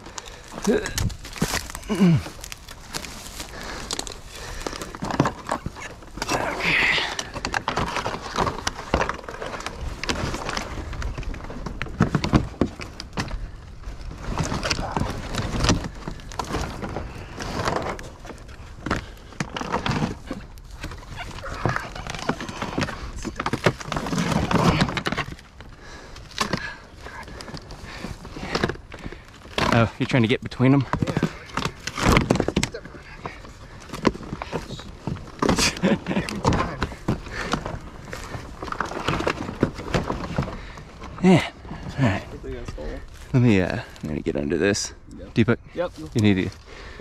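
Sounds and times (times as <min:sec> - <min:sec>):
knocks and rustling of debris: 0:00.0 - 0:44.3.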